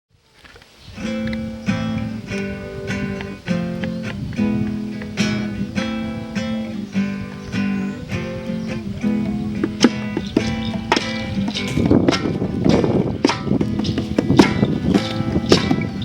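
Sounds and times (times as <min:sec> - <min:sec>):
acoustic guitar strumming chords: 0:01.0 - 0:16.0.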